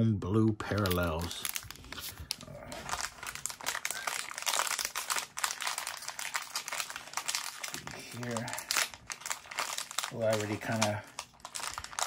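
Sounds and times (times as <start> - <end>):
plastic wrapper crinkling: 0.6 - 12.0.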